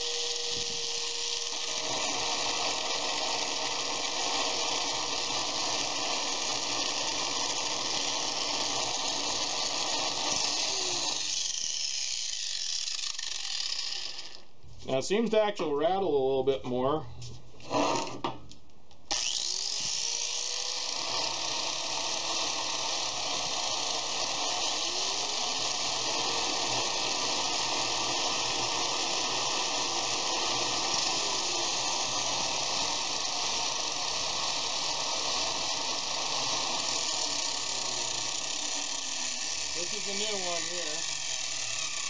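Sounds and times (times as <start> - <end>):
angle grinder whining: 0.0 - 14.5, 19.1 - 42.0.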